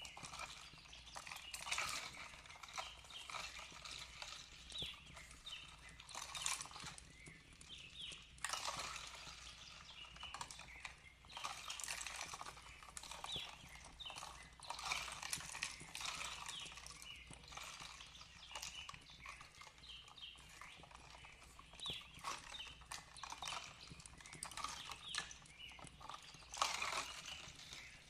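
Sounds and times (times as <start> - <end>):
fire crackling and popping: 0.0 - 28.0
small birds chirping: 0.0 - 28.0.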